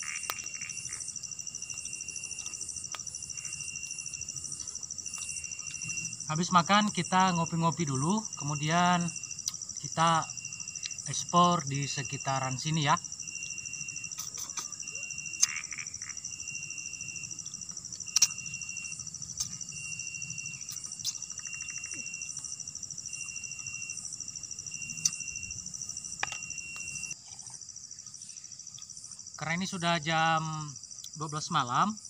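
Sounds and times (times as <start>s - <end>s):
insect repeating short notes: 0.0s - 27.2s
crickets buzzing: 0.0s - 32.0s.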